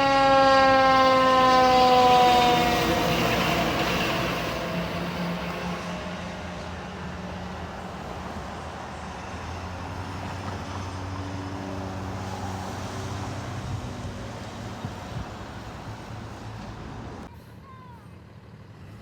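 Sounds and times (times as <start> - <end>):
heavy diesel engine running: 0.0 - 17.6.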